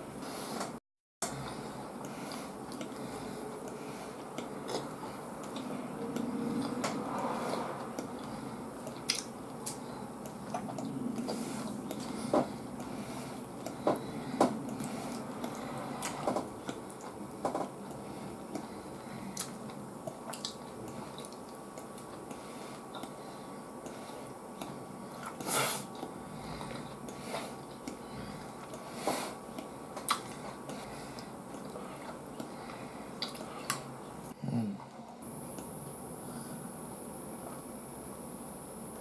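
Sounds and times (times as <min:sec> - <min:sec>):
person chewing wet mouth sounds: 0:01.2 - 0:23.2, 0:23.8 - 0:28.9, 0:29.5 - 0:33.9.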